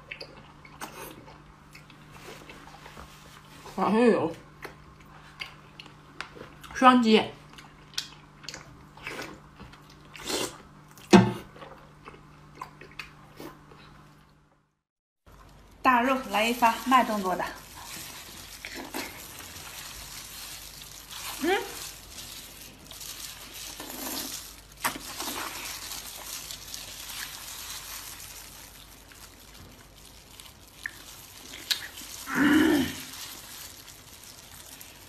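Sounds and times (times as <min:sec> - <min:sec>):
chewing and wet mouth sounds: 0:00.0 - 0:03.5, 0:04.4 - 0:06.8, 0:07.4 - 0:14.4, 0:15.3 - 0:35.0.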